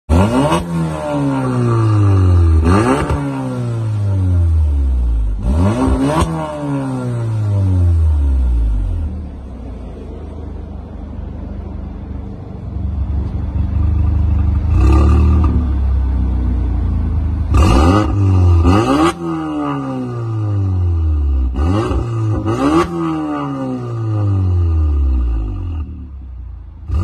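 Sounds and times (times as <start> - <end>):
car engine idling and revving: 0.1 - 27.0.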